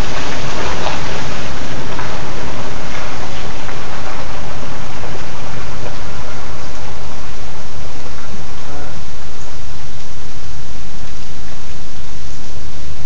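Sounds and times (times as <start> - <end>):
car driving on wet road: 0.0 - 13.0
heavy rain hissing: 0.0 - 13.0.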